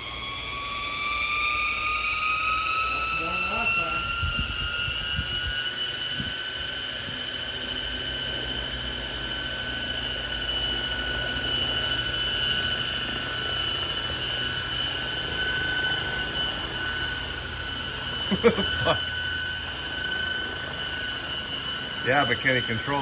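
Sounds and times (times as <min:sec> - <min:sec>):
helicopter high whine: 0:00.0 - 0:23.0
rotor blades droning: 0:00.0 - 0:23.0.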